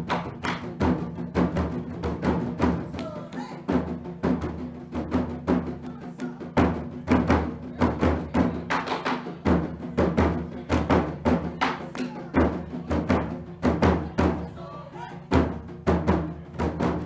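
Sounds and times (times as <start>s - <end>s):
quick drum beat: 0.0s - 17.0s.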